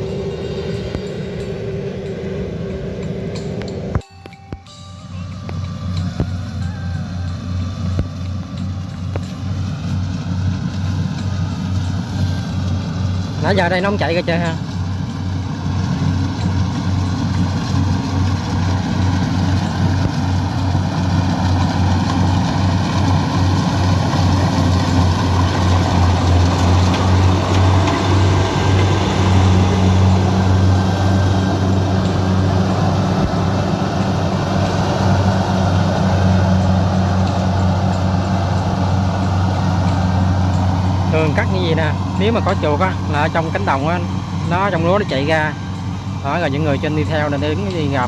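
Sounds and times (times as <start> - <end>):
harvester engine droning: 0.0 - 48.0
higher hum: 0.0 - 48.0.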